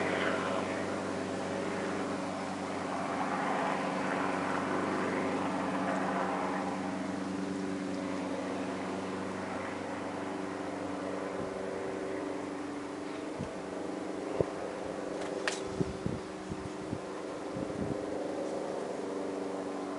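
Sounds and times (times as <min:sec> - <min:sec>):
helicopter flying overhead: 0:00.0 - 0:19.9.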